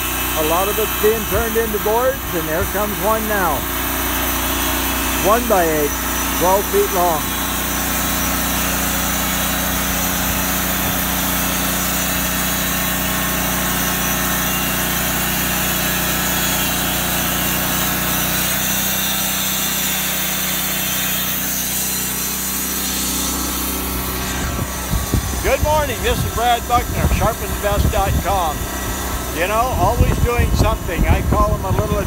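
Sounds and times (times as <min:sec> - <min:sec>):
bandsaw mill sawing wood: 0:00.0 - 0:32.0.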